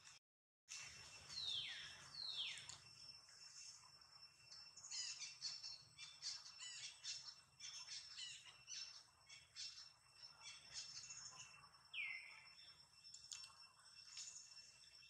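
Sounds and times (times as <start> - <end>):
bird whistle and chirps: 0.7 - 3.9, 4.5 - 15.0.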